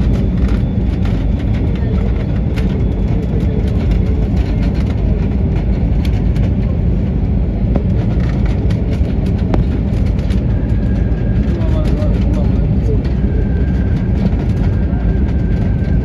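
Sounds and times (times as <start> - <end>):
jet engines in airliner cabin: 0.0 - 16.0.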